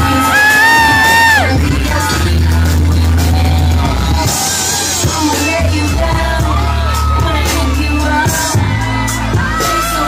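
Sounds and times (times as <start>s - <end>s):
beat with heavy bass: 0.0s - 10.0s
person singing: 0.0s - 10.0s.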